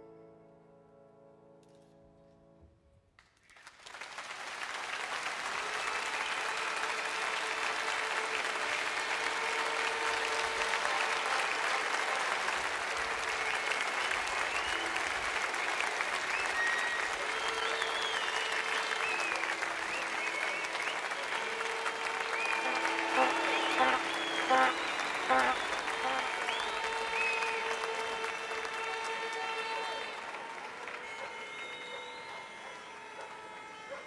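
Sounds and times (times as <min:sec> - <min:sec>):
audience applause: 0:03.4 - 0:34.0.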